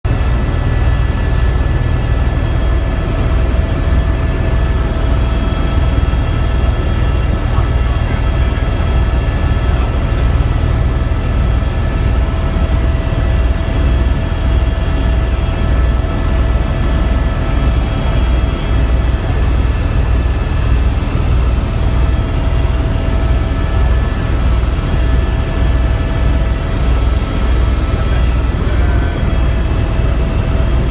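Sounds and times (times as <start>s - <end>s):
helicopter rotor beat: 0.0s - 30.9s
whining engine: 0.1s - 30.9s.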